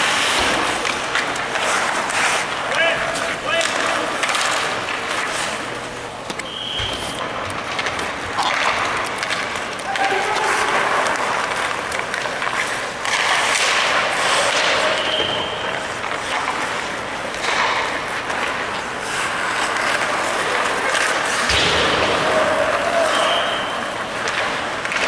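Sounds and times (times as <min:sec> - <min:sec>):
skate blades scraping ice: 0:00.0 - 0:06.0, 0:06.6 - 0:25.0
stick and puck clacks: 0:00.0 - 0:25.0.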